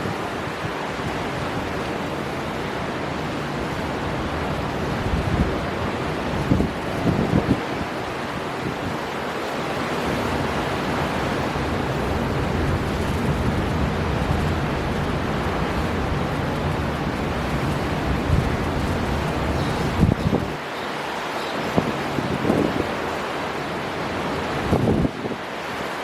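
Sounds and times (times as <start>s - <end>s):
wind buffeting microphone: 0.0s - 8.0s, 10.1s - 20.6s, 21.7s - 23.1s, 24.2s - 25.5s
storm wind: 0.0s - 26.0s
surf waves: 0.0s - 26.0s.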